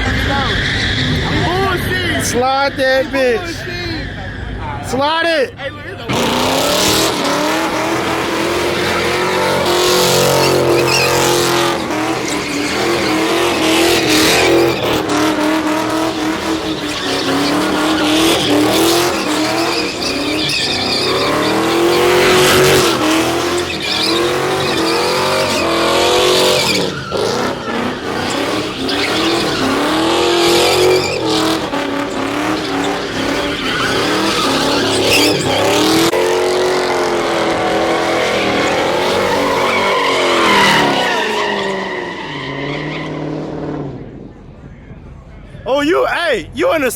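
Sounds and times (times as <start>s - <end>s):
car engine revving: 0.0s - 5.3s, 6.0s - 44.3s
tyres squealing: 0.0s - 43.3s.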